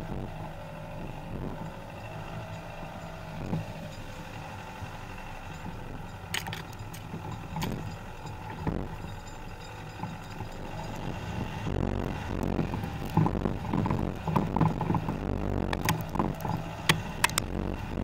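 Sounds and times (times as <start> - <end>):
diesel car engine running: 0.0 - 18.0
suspension knocks and clicks: 1.3 - 18.0.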